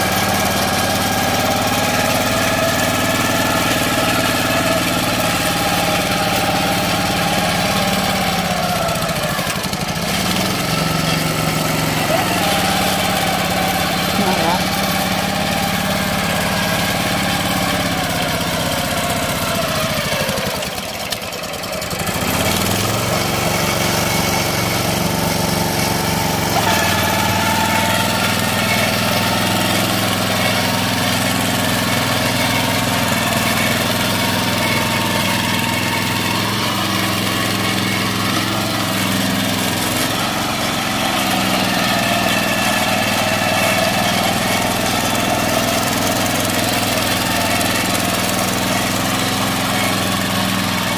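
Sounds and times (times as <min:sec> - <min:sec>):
hand tractor engine running: 0:00.0 - 0:50.9.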